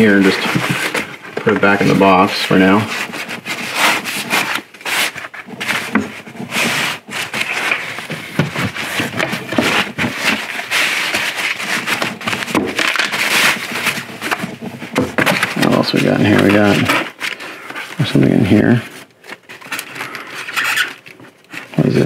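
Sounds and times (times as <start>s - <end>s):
plastic and foam rustling: 0.0s - 22.0s.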